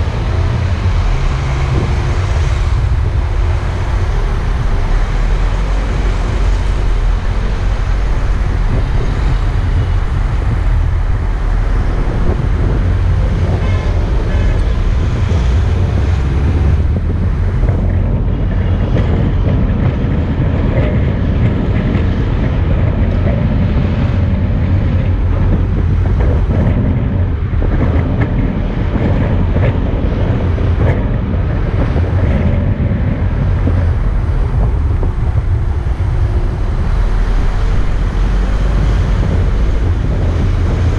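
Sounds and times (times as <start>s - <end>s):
car road noise rumble: 0.0s - 40.9s.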